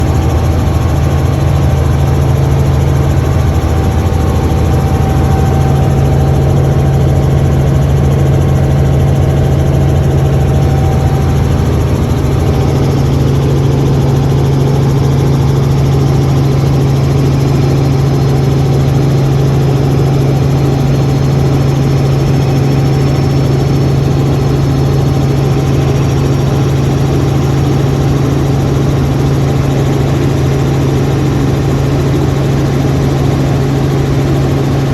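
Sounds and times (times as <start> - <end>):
helicopter engine and rotors: 0.0 - 34.9.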